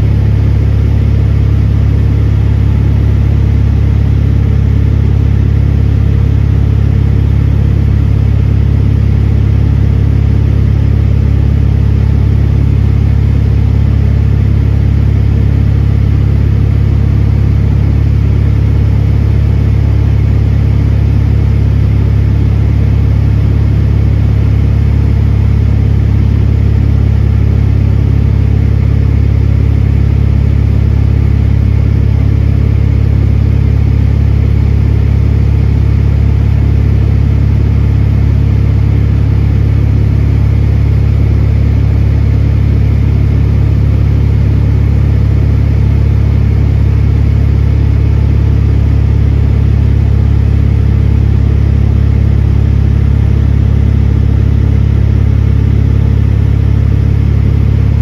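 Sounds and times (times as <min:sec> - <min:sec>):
aircraft engine drone in cabin: 0:00.0 - 0:58.0.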